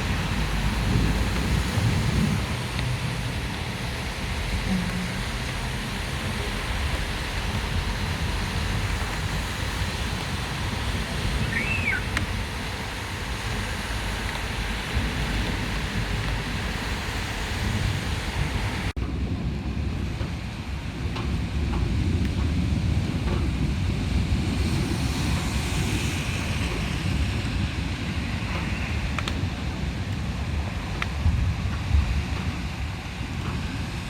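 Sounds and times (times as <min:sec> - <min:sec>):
heavy rain: 0:00.0 - 0:34.0
wind rumbling on microphone: 0:00.0 - 0:34.0.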